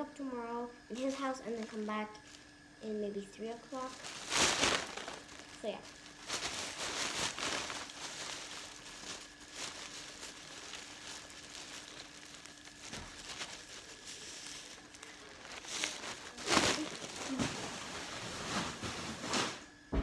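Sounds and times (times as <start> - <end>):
faint steady hum: 0.0 - 20.0
plastic bag rustling: 0.9 - 19.7.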